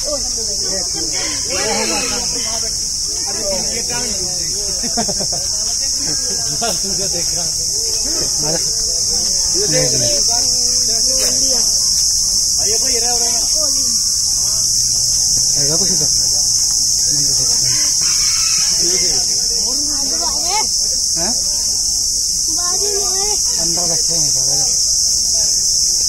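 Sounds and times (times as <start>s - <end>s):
faint distant voices: 0.0s - 26.0s
high-pitched insect drone: 0.0s - 26.0s.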